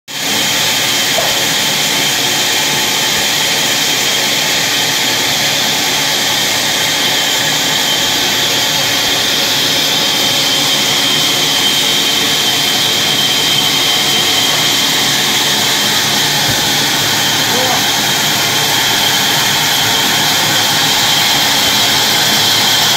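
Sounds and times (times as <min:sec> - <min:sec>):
bandsaw running: 0:00.1 - 0:22.9.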